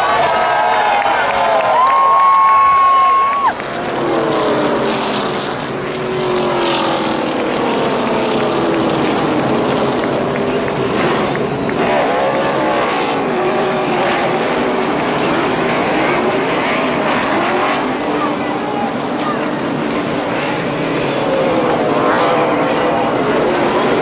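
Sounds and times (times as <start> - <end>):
race car engines running: 0.0 - 24.0.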